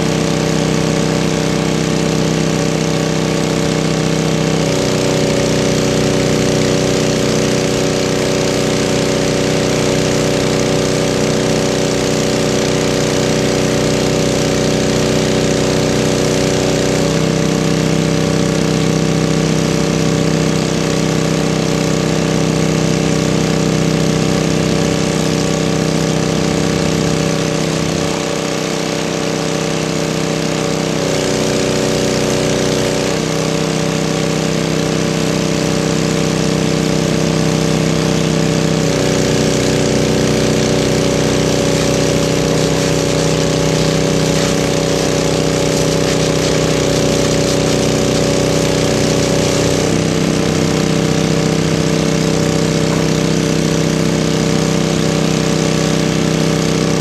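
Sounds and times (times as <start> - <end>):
small gasoline engine running pump: 0.0 - 57.0.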